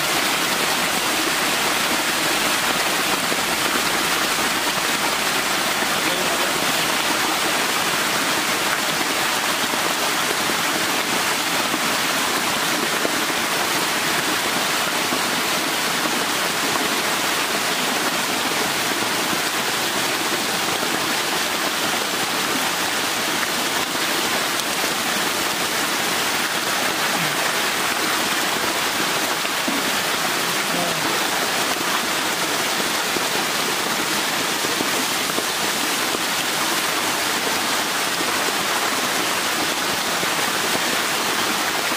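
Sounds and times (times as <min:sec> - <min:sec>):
water jets splashing into tank: 0:00.0 - 0:41.9.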